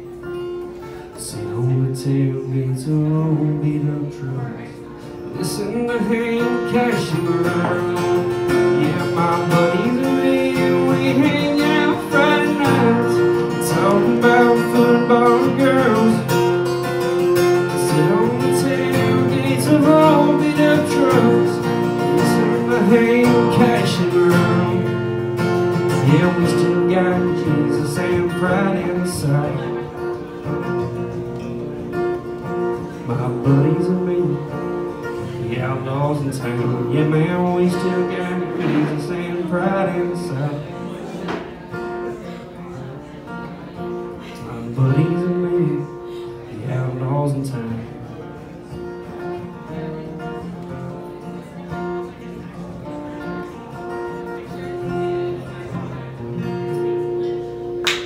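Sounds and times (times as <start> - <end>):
man singing country song: 0.0 - 57.8
acoustic guitar strumming: 0.0 - 58.0.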